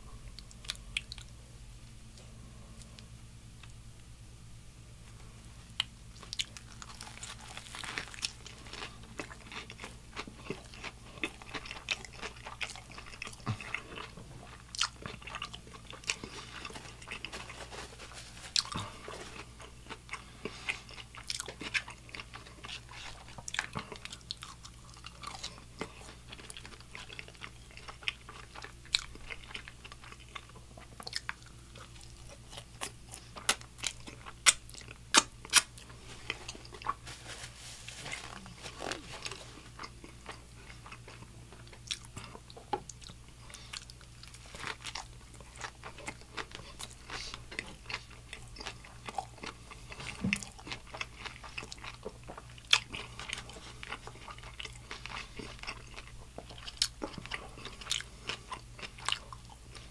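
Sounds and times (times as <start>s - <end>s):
steady low hum: 0.0s - 59.9s
chewing crunchy fried chicken: 0.3s - 1.4s, 5.6s - 59.9s.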